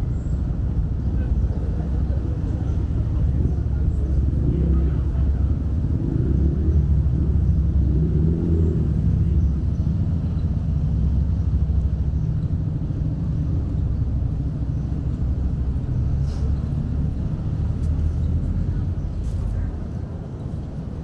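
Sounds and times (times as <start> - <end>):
outdoor town ambience rumble: 0.0 - 21.0.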